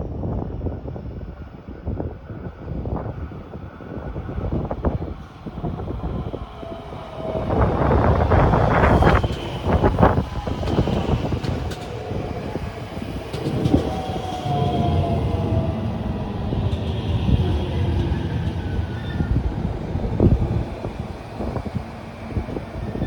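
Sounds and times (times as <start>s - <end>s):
train wheels rumbling on rails: 0.0s - 23.0s
train whining tone: 3.0s - 23.0s.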